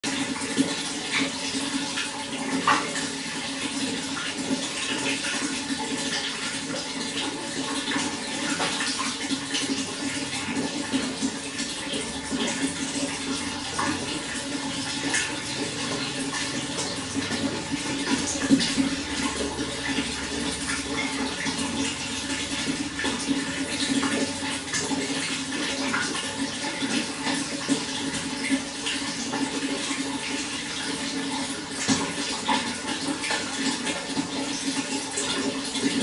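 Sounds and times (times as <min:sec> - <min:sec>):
running water splashing: 0:00.0 - 0:36.0.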